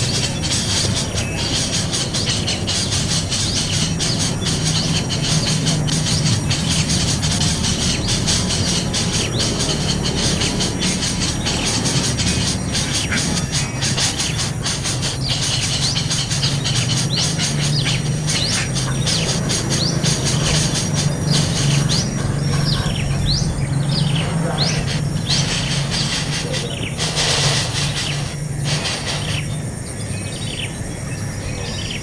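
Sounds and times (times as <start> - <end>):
high-pitched insect drone: 0.0 - 32.0
small birds chirping: 0.0 - 32.0
steady low hum: 0.0 - 32.0.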